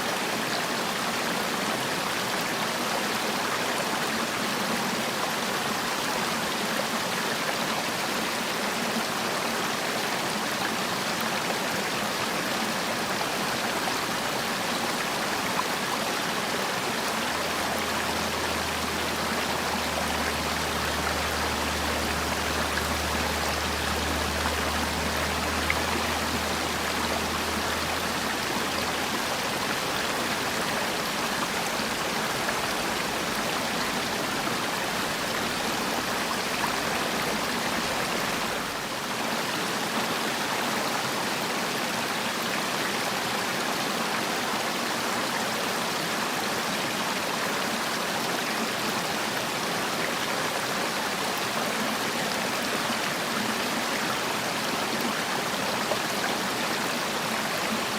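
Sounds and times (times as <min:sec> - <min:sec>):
stream rushing: 0:00.0 - 0:57.9.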